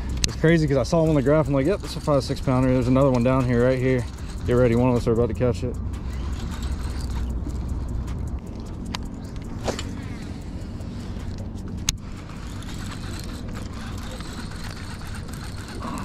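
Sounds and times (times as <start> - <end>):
fishing reel clicks: 0.0 - 16.0.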